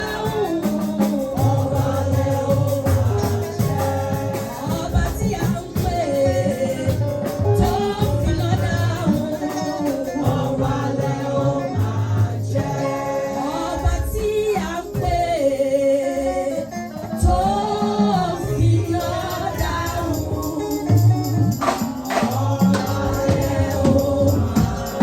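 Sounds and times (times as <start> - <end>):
gospel group singing with instruments: 0.0 - 25.0.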